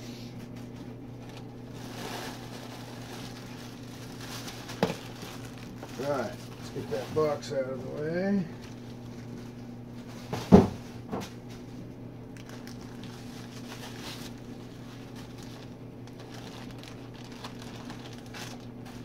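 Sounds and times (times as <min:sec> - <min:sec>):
plastic bag and bubble wrap rustling: 0:00.5 - 0:10.8, 0:12.4 - 0:19.0.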